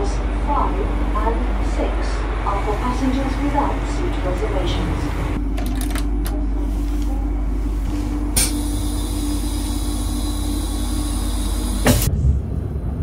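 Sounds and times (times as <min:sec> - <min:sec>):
train carriage rumble: 0:00.0 - 0:13.0.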